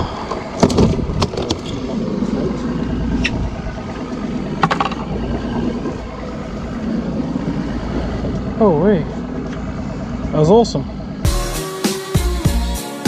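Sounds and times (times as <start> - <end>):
water noise: 0.0 - 11.3
outboard engine idling: 0.0 - 13.0
wind: 0.0 - 13.0.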